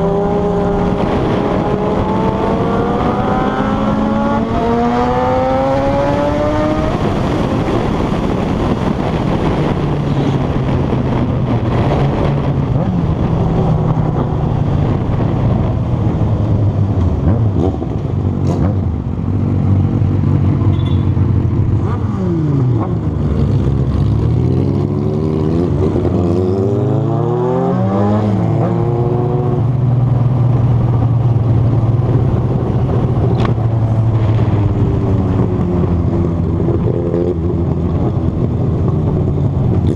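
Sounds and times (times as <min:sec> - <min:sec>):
motorcycle engines accelerating: 0:00.0 - 0:39.9.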